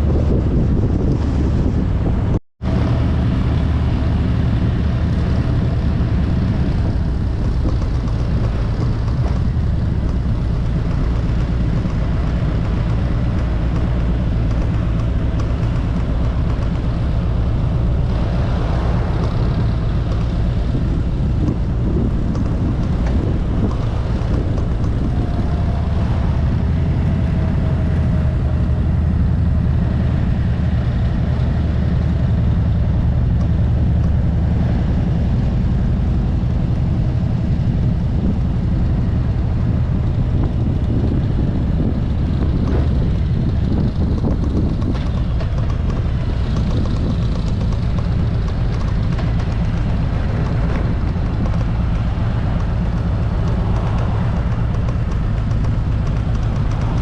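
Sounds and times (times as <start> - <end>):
motorcycle engine rumble: 0.0 - 57.0
wind rushing past microphone: 0.0 - 57.0.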